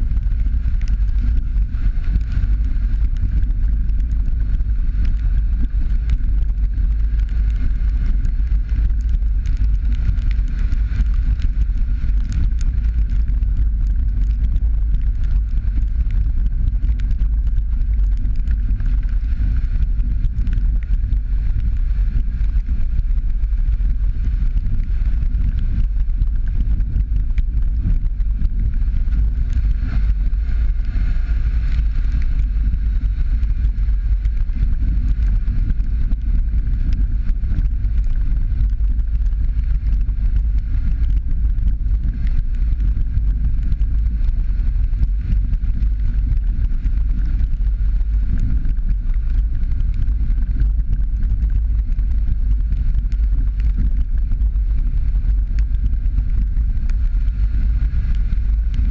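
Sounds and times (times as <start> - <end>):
car driving on dirt road: 0.0 - 58.9
small clicks from road: 0.0 - 58.9.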